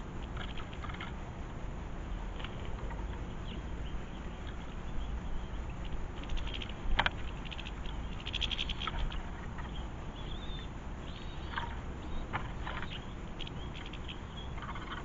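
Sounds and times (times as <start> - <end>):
low background rumble: 0.0 - 15.0
songbirds twittering: 0.0 - 15.0.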